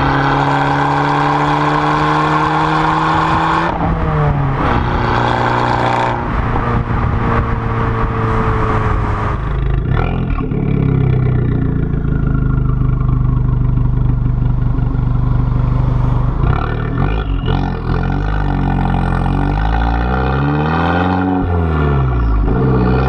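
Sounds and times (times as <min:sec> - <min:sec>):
car exhaust note: 0:00.0 - 0:23.0.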